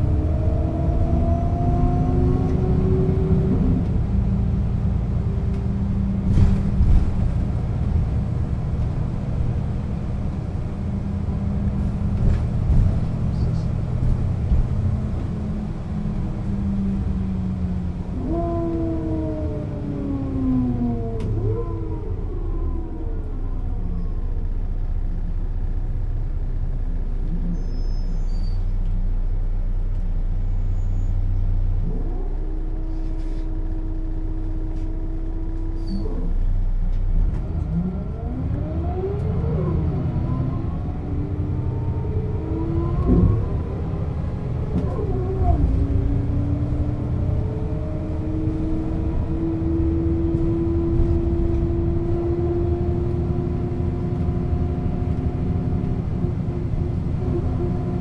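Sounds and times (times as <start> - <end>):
bus diesel engine and gear changes: 0.0 - 58.0.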